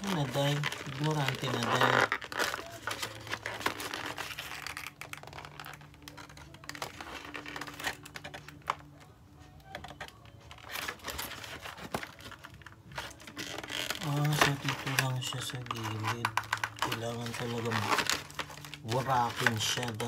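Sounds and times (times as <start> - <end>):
cardboard box crinkling and scraping: 0.0 - 8.2, 10.6 - 20.0.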